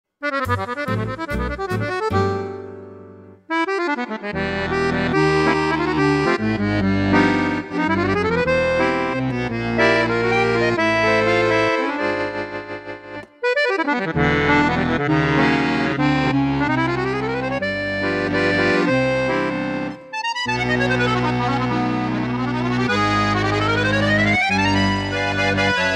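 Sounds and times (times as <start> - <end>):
button accordion playing: 0.2 - 25.9.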